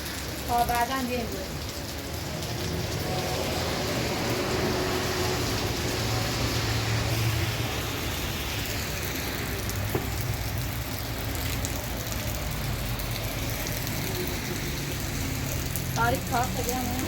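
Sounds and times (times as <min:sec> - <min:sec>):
low traffic hum: 0:00.0 - 0:17.0
steady rain: 0:00.0 - 0:17.0.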